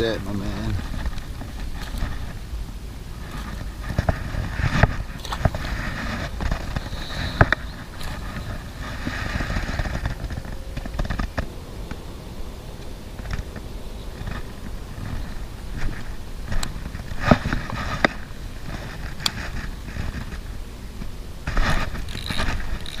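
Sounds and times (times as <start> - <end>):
handling knocks and rustling: 0.0 - 23.0
wind rumbling on microphone: 0.0 - 23.0.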